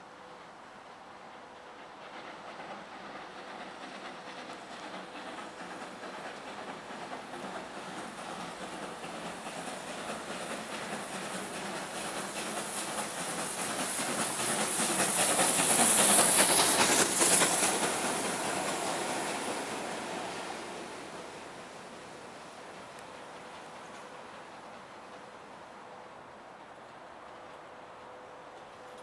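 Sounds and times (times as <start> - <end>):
steam hiss: 0.0 - 28.4
wheels clattering on rails: 0.4 - 29.0.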